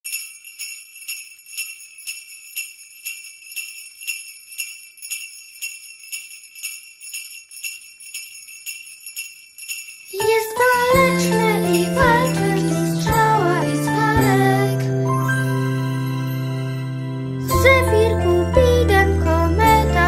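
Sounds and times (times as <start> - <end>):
sleigh bells jingling: 0.0 - 20.0.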